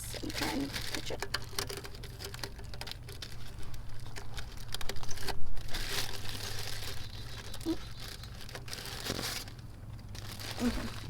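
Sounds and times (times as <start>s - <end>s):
crinkly wrap crackling: 0.0s - 11.0s.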